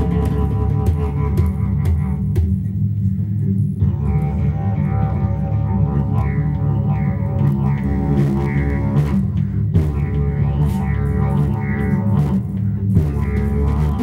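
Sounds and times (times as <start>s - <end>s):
didgeridoo droning: 0.0s - 14.0s.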